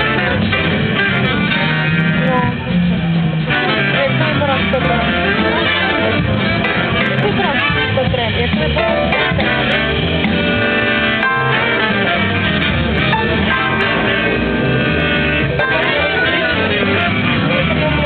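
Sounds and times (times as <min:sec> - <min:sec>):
big band playing: 0:00.0 - 0:18.0.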